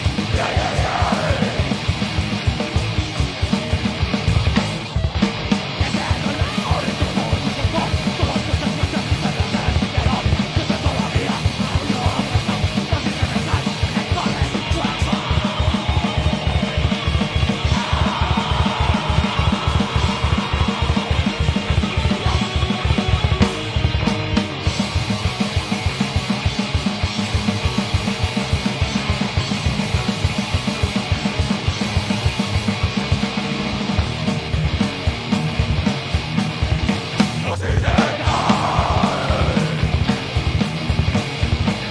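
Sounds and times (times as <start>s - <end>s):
bass guitar: 0.0s - 41.9s
distorted electric guitar: 0.0s - 41.9s
heavy metal band playing: 0.0s - 41.9s
rapid kick-drum beats: 0.0s - 41.9s.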